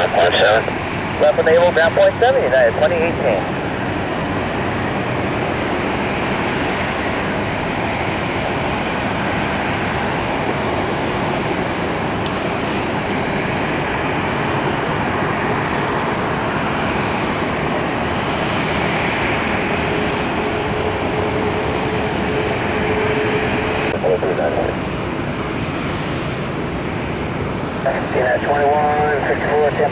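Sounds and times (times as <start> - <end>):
jet engines running: 0.0 - 29.9.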